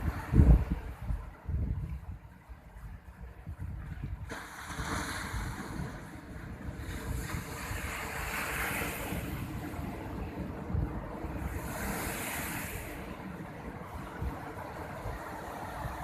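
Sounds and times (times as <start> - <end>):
sea surf breaking on beach: 0.0 - 2.2, 3.3 - 16.0
wind rumbling on microphone: 0.0 - 16.0.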